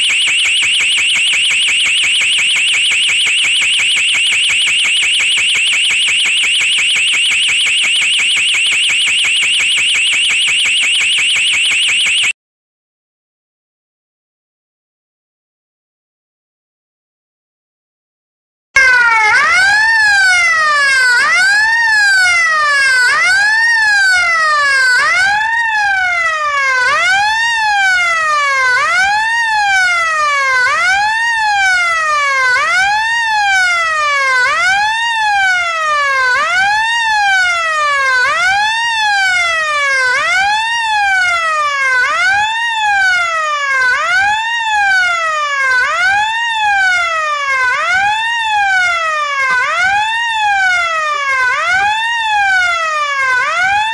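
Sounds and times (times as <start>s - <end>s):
wailing siren: 0.0s - 12.4s, 18.8s - 53.9s.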